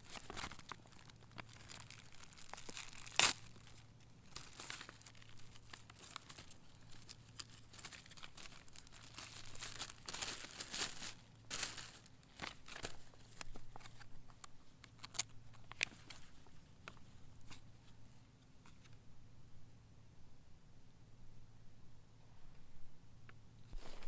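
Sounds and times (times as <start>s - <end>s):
rustling and crinkling: 0.0s - 19.0s, 23.7s - 24.0s.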